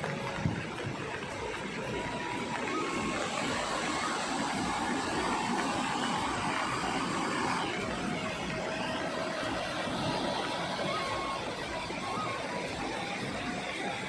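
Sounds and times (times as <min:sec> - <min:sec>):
rushing flooded river: 0:00.0 - 0:14.0.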